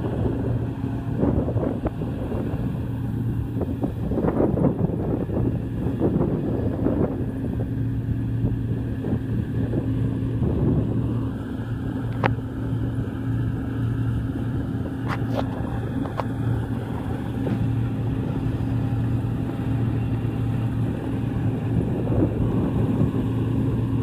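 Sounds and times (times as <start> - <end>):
combine harvester engine humming: 0.0 - 24.0
wind buffeting microphone: 0.0 - 24.0.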